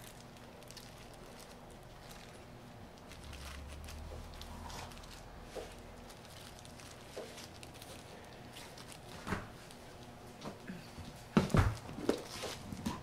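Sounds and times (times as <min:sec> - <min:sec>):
gloved hands handling food: 0:00.0 - 0:13.0.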